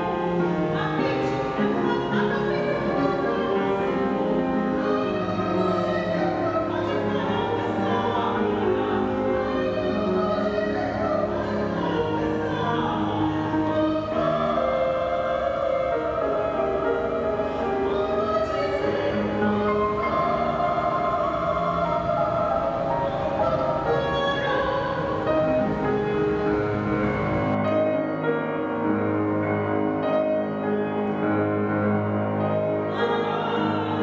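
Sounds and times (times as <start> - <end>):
woman singing classically: 0.0 - 26.8, 32.8 - 34.0
piano accompaniment: 0.0 - 34.0.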